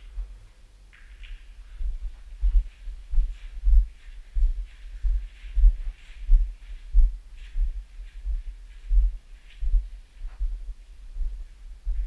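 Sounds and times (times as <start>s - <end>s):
footsteps with scuffs: 0.1s - 12.0s.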